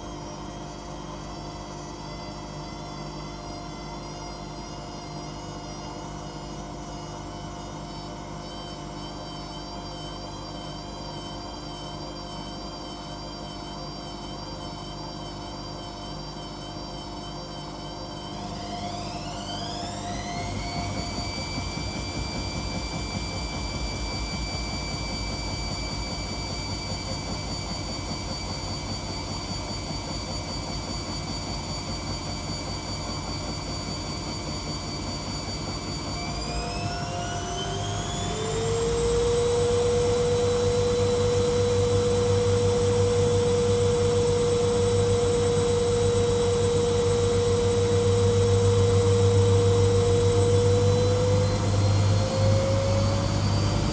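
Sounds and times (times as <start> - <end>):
washing machine spinning up: 0.0 - 53.9.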